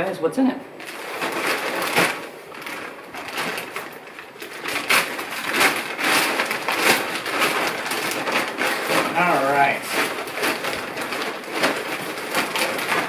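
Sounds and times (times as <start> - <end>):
plastic mailer bag crinkling: 0.8 - 13.0.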